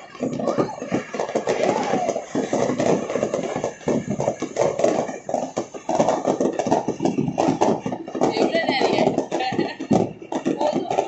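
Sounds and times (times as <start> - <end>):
fireworks popping and banging: 0.0 - 11.0.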